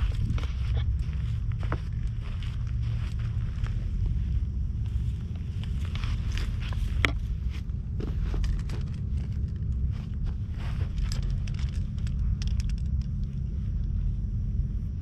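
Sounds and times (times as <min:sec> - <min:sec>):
scratchy crackles and clicks: 0:00.0 - 0:14.5
steady low rumble: 0:00.0 - 0:15.0.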